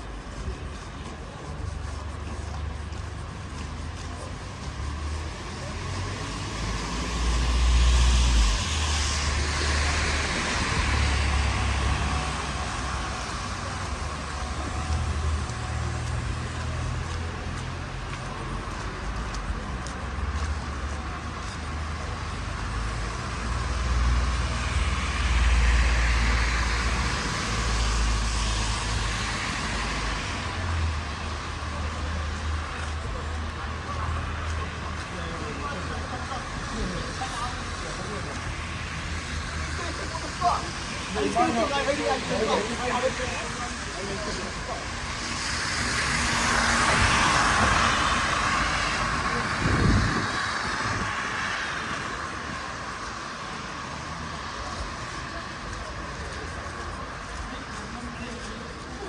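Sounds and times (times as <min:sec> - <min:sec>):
low traffic rumble: 0:00.0 - 0:59.0
vehicles passing with tyre hiss: 0:00.0 - 0:59.0.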